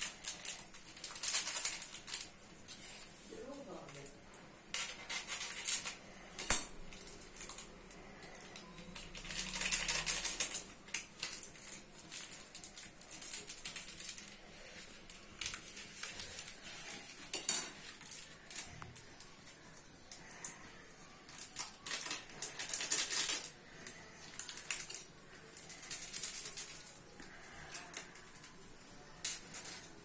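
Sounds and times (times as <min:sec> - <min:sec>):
dry noodles crumbling and snapping: 0:04.8 - 0:20.6, 0:21.3 - 0:30.0.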